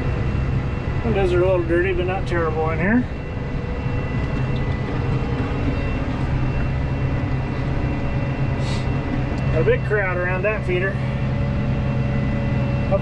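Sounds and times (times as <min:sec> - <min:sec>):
faint high whine: 0:00.0 - 0:13.0
tractor engine drone: 0:00.0 - 0:13.0.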